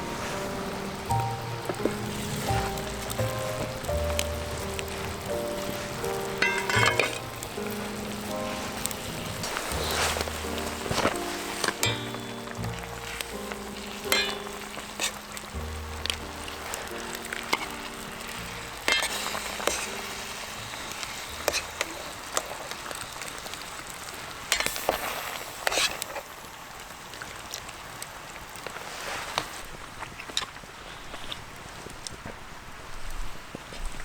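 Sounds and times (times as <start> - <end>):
food sizzling in a frying pan: 0.0 - 29.6.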